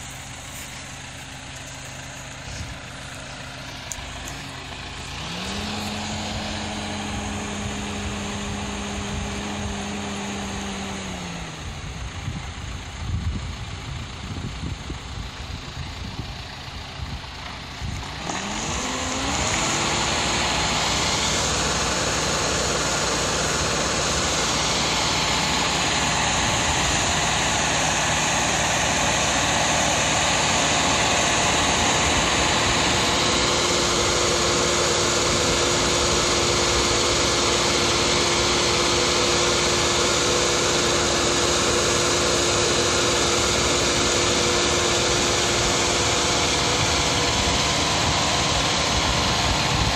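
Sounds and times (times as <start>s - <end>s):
engine and pump running: 0.0s - 49.9s.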